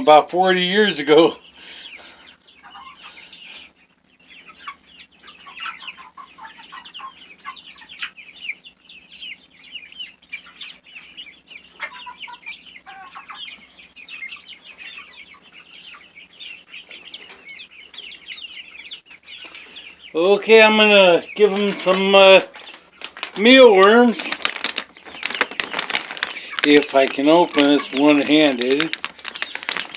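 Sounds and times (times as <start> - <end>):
chicks cheeping: 0.0 - 29.9
lower chicken calls: 1.5 - 29.9.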